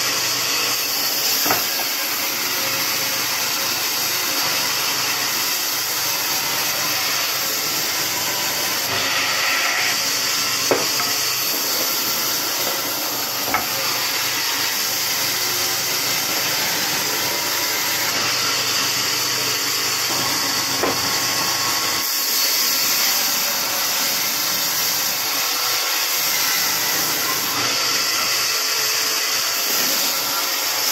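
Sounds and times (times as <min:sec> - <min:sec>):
band saw cutting wood: 0:00.0 - 0:30.9.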